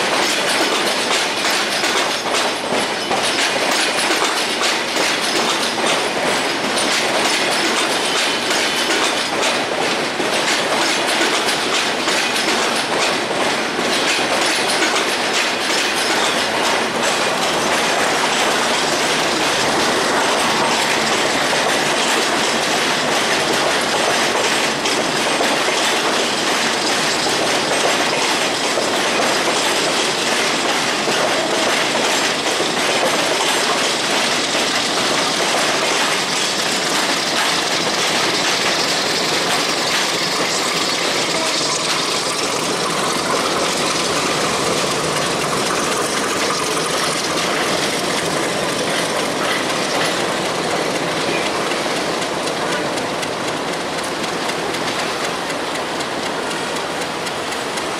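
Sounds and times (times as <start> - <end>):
train wheels clickety-clack: 0.0 - 57.9.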